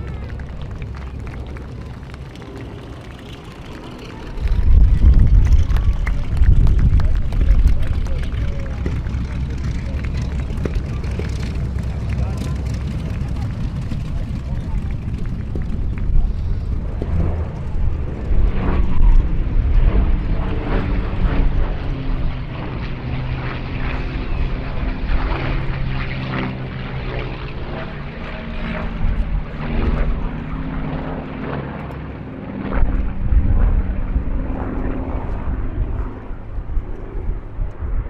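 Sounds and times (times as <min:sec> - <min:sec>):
propeller aircraft engines droning: 0:00.0 - 0:38.0.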